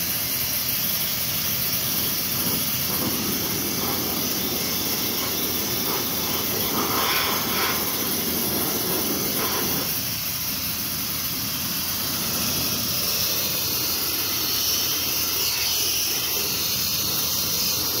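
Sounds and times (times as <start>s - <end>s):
sandblasting hiss: 0.0s - 18.0s.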